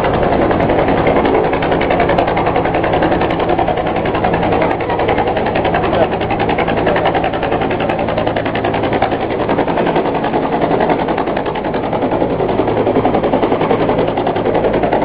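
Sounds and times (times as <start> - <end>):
helicopter engine hum: 0.0 - 15.0
helicopter rotor beating: 0.0 - 15.0.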